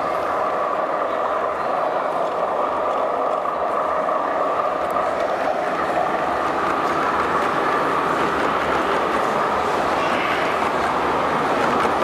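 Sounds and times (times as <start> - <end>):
busy hall background noise: 0.0 - 12.0
model train rolling hum: 0.0 - 12.0.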